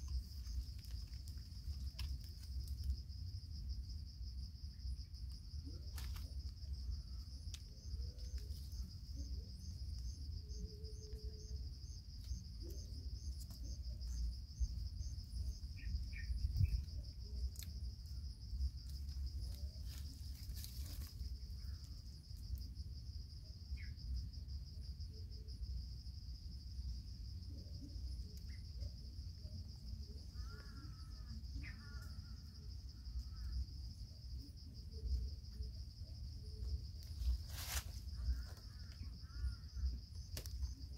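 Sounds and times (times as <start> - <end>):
pulsing insect chorus: 0.0 - 40.9.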